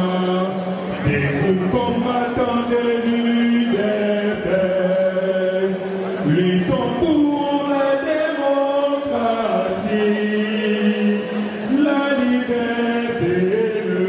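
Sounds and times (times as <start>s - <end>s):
solemn singing in long notes: 0.0s - 14.0s.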